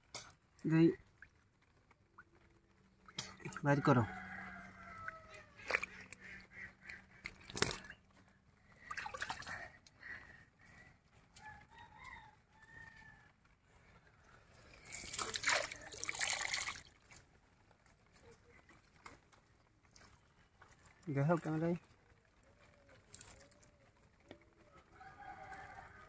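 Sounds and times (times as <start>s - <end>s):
water splashing and dripping: 0.0s - 11.5s, 14.5s - 25.8s.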